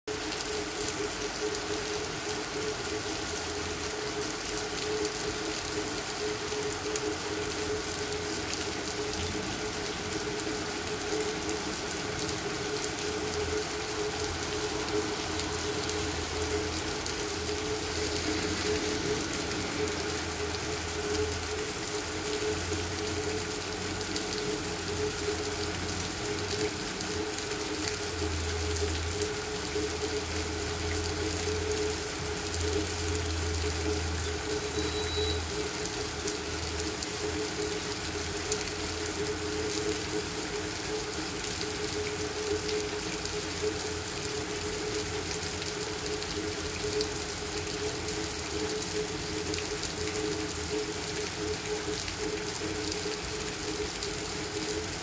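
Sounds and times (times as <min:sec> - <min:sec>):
rain falling on pavement: 0:00.1 - 0:55.0.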